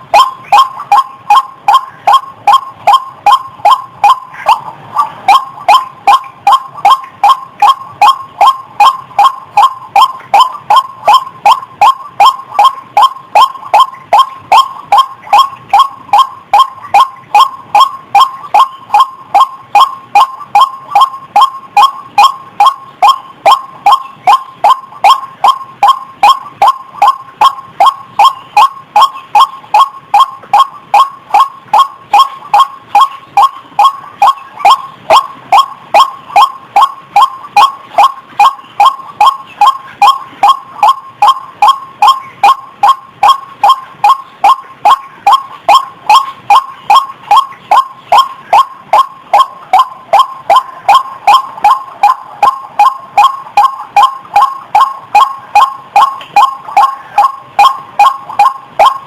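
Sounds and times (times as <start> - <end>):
waterhen calling: 0.0 - 59.0.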